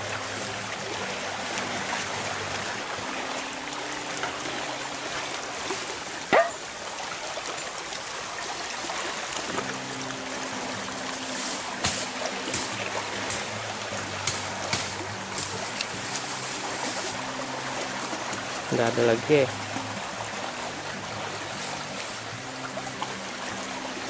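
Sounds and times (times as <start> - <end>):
fast-flowing river rushing: 0.0 - 24.0.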